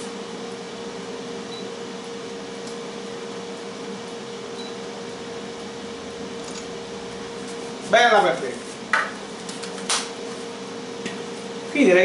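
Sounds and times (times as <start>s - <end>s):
air fryer fan humming: 0.0s - 12.0s.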